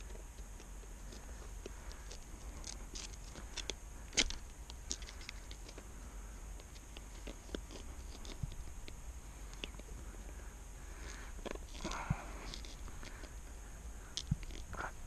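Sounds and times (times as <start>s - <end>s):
stake scraping on rocky ground: 0.0s - 15.0s.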